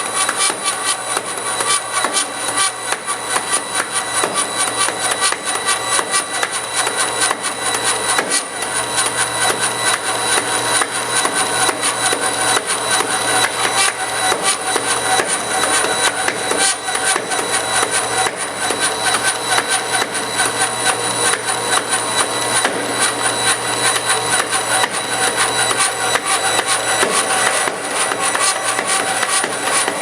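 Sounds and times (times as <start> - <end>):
bandsaw hum: 0.0 - 30.0.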